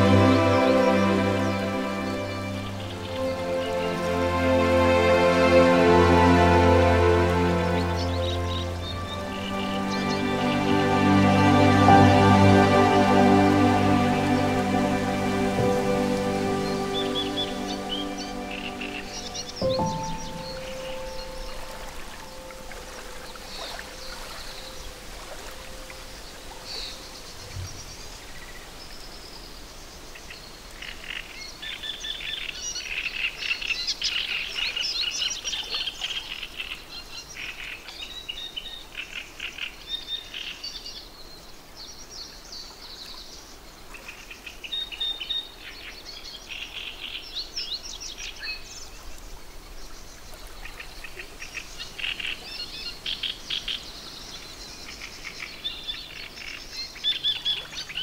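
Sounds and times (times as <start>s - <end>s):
small songbirds chirping: 0.0s - 5.3s, 6.8s - 58.0s
faint background hiss: 0.0s - 58.0s.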